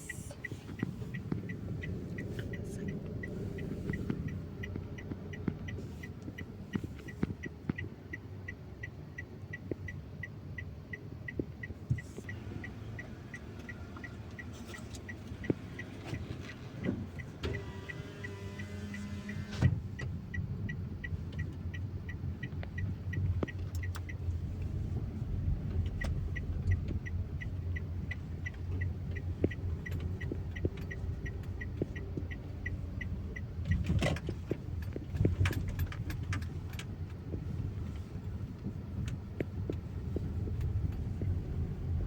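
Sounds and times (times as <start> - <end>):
low rumble of engines: 0.0 - 42.0.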